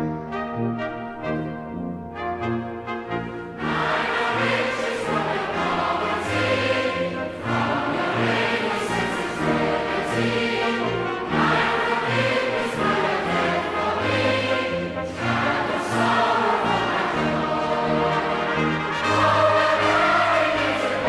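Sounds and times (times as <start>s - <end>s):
orchestral accompaniment: 0.0s - 21.0s
choir singing held notes: 2.1s - 21.0s.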